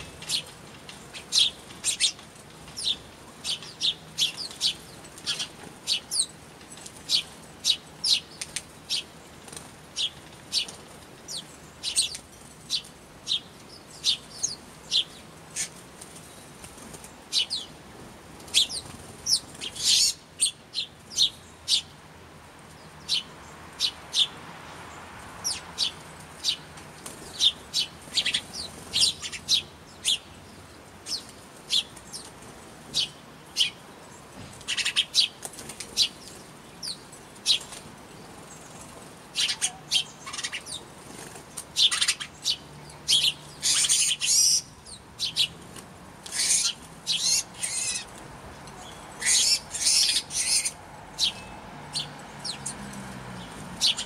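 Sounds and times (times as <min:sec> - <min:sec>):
small birds chirping: 0:00.0 - 0:22.0, 0:22.6 - 0:54.0.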